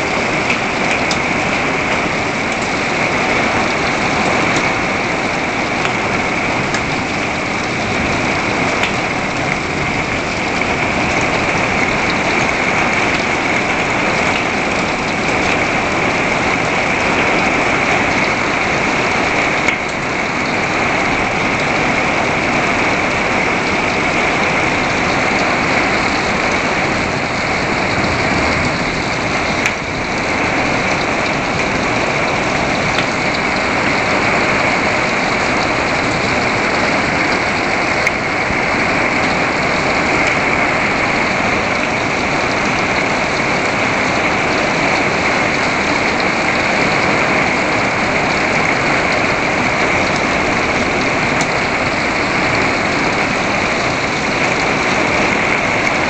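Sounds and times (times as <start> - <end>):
heavy rain on deck and buckets: 0.0 - 56.0.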